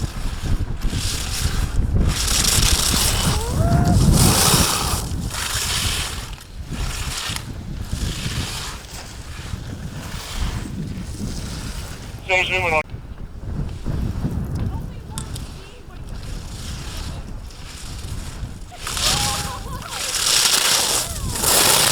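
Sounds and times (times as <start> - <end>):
skis scraping on hard snow: 0.0 - 12.8, 13.4 - 21.9
wind on microphone: 0.0 - 21.9.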